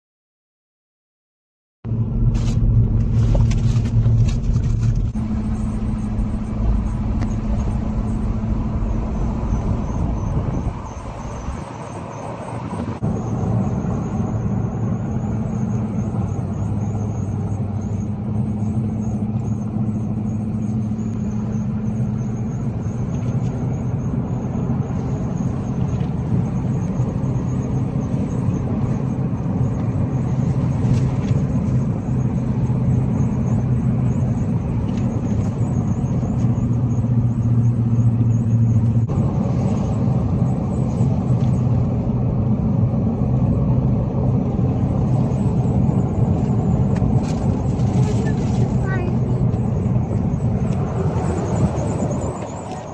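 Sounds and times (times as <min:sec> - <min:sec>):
car engine and road noise: 0:01.8 - 0:52.9.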